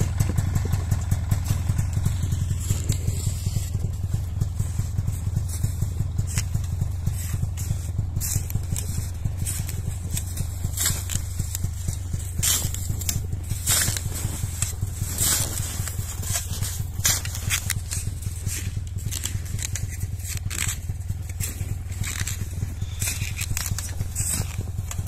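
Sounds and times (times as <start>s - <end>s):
skis scraping on crusted snow: 0.0s - 25.0s
snowmobile engine drone: 0.0s - 25.0s.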